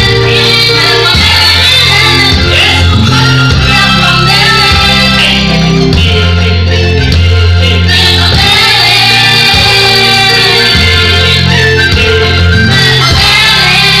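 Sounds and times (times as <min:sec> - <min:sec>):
amplified music with deep bass: 0:00.0 - 0:14.0
group singing gospel song: 0:00.0 - 0:14.0.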